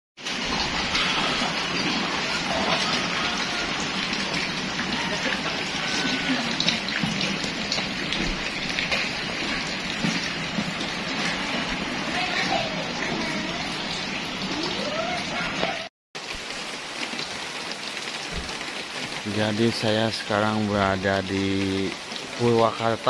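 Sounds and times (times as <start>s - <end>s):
raindrops pattering on surfaces: 0.2s - 23.0s
steady rain falling: 0.2s - 23.0s.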